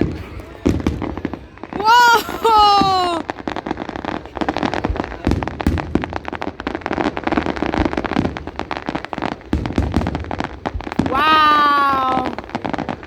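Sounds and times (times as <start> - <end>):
fireworks booming: 0.0 - 13.0
fireworks crackling and popping: 0.0 - 13.0.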